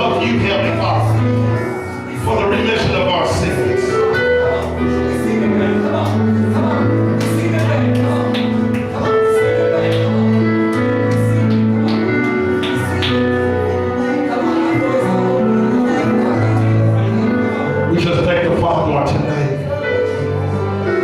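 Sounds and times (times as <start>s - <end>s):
church band playing chords: 0.0s - 21.0s.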